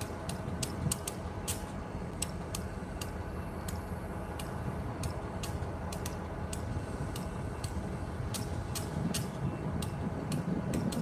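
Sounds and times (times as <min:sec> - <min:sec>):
distant vehicles rumbling: 0:00.0 - 0:11.0.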